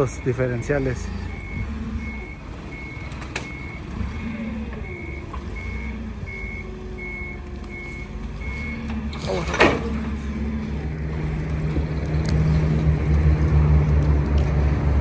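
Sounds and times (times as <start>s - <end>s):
forklift warning alarm beeping: 0.0s - 11.3s, 12.4s - 13.4s
forklift engine running: 0.0s - 15.0s.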